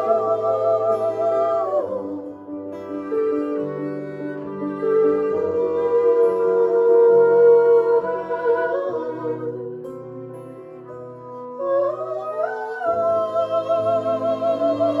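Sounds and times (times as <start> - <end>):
held instrumental notes: 0.0 - 15.0.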